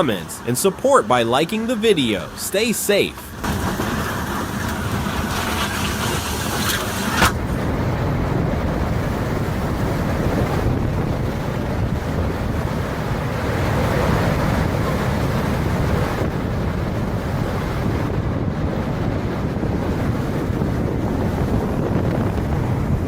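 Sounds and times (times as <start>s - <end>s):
wind buffeting microphone: 3.0s - 23.0s.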